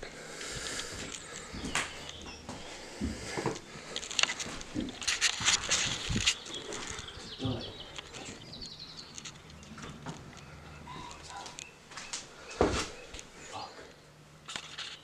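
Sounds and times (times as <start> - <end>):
footsteps crunching on debris: 0.5 - 13.3.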